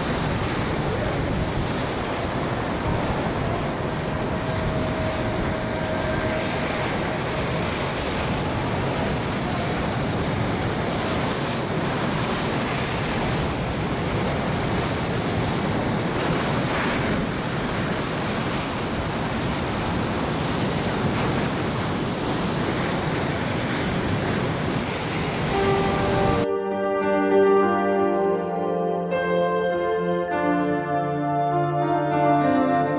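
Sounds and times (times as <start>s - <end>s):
ocean waves washing onto beach: 0.0s - 26.5s.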